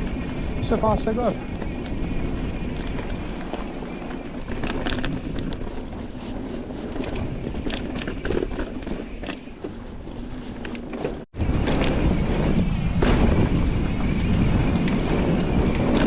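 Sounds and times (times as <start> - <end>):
bike clattering and rattling: 0.0 - 16.0
tyre and wind noise: 0.0 - 16.0.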